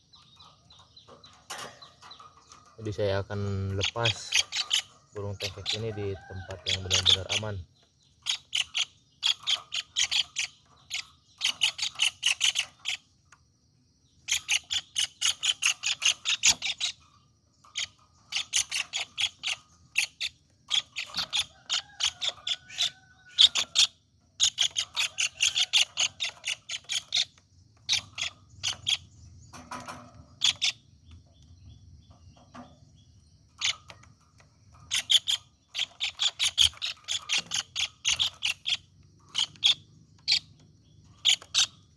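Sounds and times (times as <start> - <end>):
bird chirping rapidly: 0.0 - 13.4, 14.0 - 41.9.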